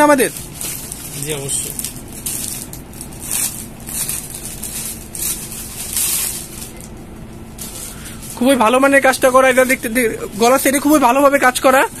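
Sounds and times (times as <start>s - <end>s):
plastic packaging crinkling: 0.0s - 11.9s.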